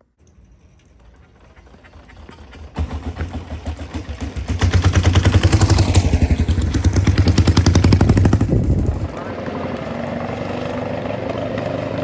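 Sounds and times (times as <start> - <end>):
motorcycle engine with exhaust pops: 0.0 - 12.0.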